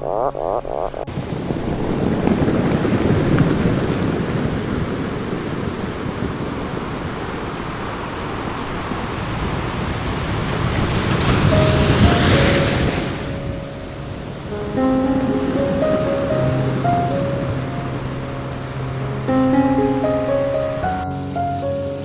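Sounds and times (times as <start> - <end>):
ocean surf rushing: 1.1 - 22.0.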